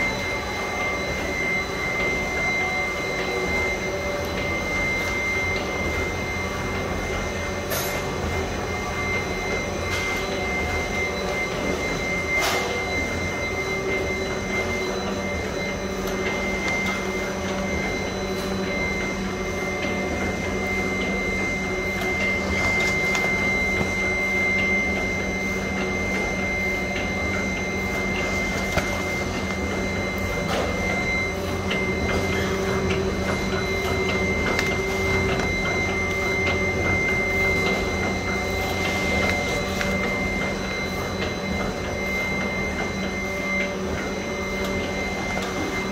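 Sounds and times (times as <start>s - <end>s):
high-pitched machine whine: 0.0s - 45.9s
printing machine hum: 0.0s - 45.9s.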